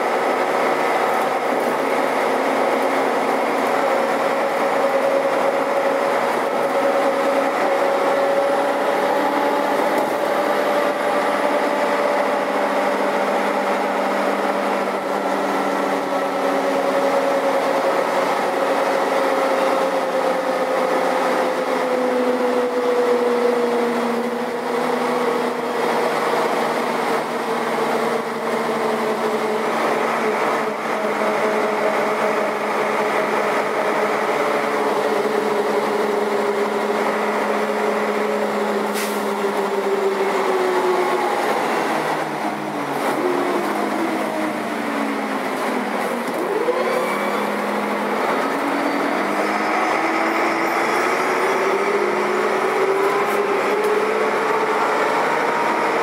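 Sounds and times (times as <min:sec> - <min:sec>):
bus engine whine: 0:00.0 - 0:56.0.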